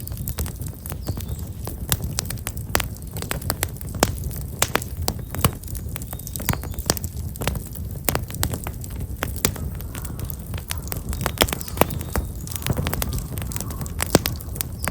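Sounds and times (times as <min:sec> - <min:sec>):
fire crackling and popping: 0:00.0 - 0:14.9.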